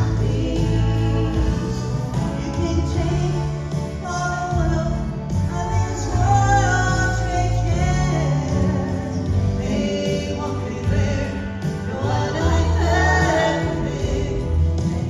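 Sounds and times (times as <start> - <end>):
women singing in harmony: 0.0 - 3.5, 5.6 - 15.0
instrumental accompaniment with bass: 0.0 - 15.0.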